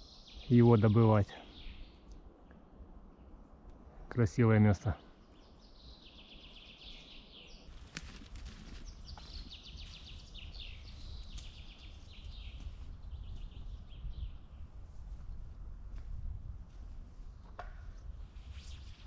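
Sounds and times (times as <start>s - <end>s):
songbirds singing: 0.0s - 15.4s.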